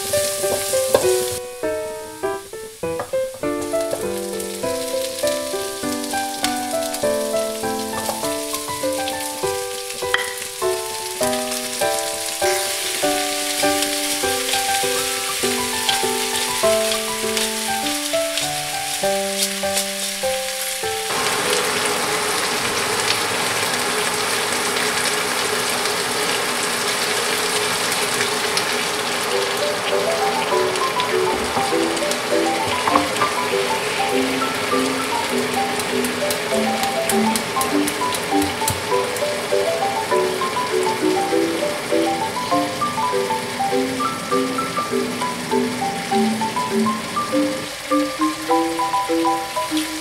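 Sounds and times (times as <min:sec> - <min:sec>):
background music: 0:00.0 - 0:21.1, 0:29.3 - 0:50.0
crackling sizzle in a pan: 0:00.0 - 0:50.0.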